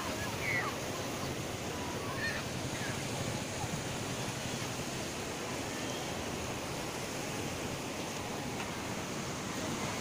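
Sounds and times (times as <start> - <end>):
sea waves: 0.0 - 10.0
wind: 0.0 - 10.0.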